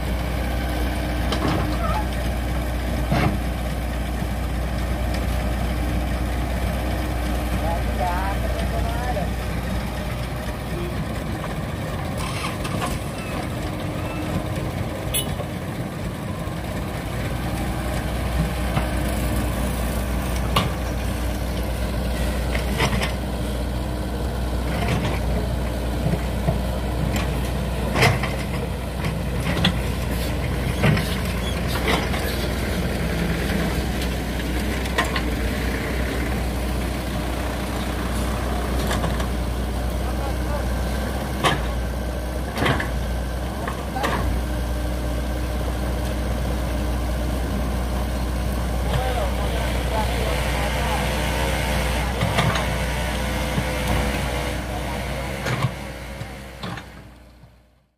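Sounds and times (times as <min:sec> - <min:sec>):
diesel engines running: 0:00.0 - 0:57.9.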